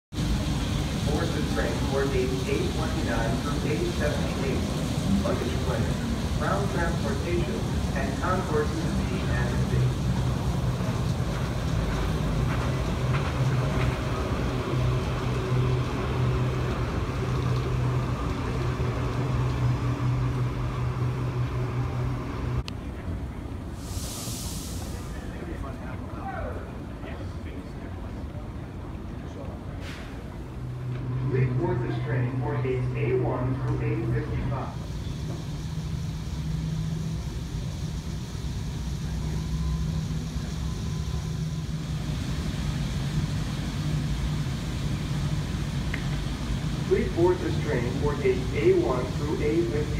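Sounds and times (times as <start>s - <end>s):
people mover humming: 0.2s - 24.0s, 24.8s - 49.9s.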